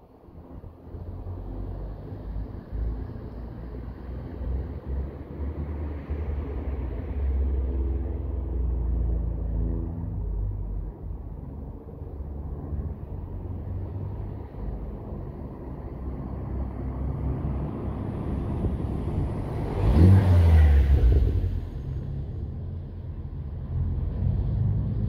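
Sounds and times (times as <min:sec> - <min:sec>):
car engine and exhaust passing: 0:00.6 - 0:25.0.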